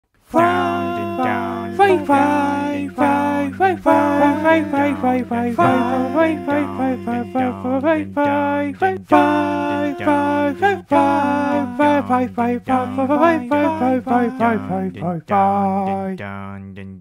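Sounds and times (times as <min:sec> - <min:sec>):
person singing a melody: 0:00.2 - 0:17.0.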